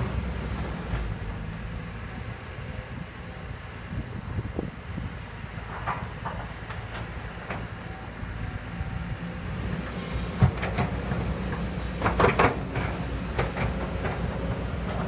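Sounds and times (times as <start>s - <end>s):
excavator engine rumble: 0.0s - 15.0s.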